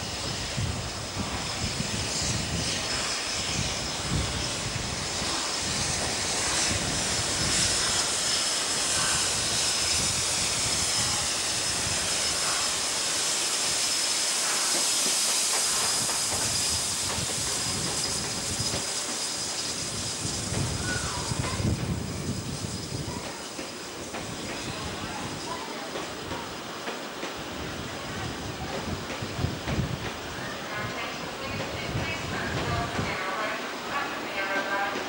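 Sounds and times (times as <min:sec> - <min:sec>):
steam hissing: 0:00.0 - 0:35.0
steam locomotive passing: 0:00.0 - 0:35.0.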